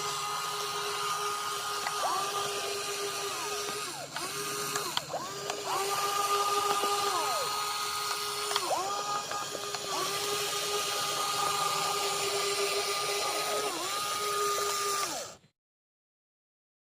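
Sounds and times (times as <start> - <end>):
small electric motors whining: 0.0 - 15.5.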